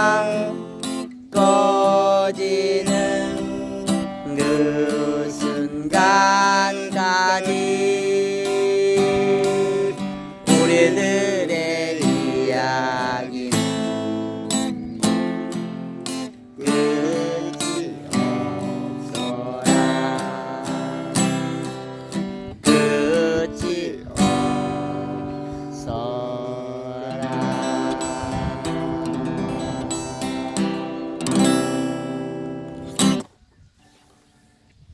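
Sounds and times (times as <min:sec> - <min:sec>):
acoustic guitar strumming: 0:00.0 - 0:33.3.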